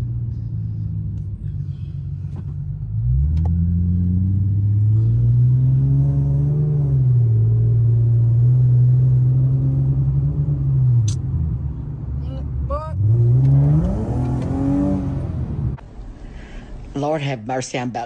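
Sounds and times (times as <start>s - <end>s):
car engine accelerating hard: 0.0s - 17.3s.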